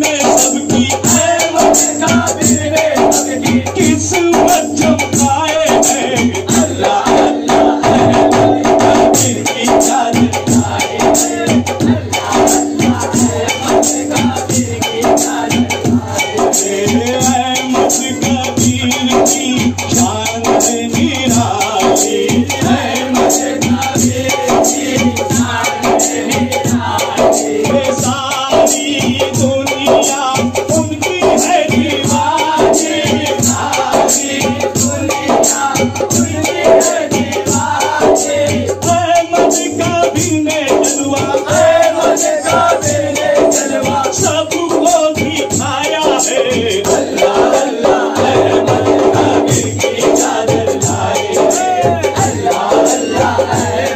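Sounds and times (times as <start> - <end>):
man singing into a microphone: 0.0 - 53.9
other voices singing: 0.0 - 53.9
rattling hand percussion: 0.0 - 53.9.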